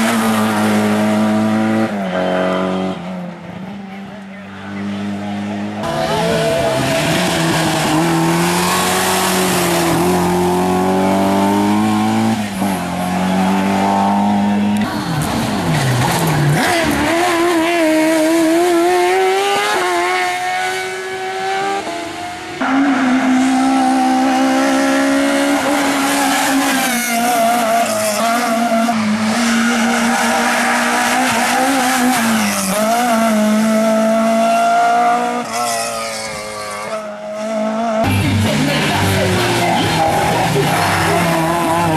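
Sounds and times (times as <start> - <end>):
racing car engines revving: 0.0 - 41.9.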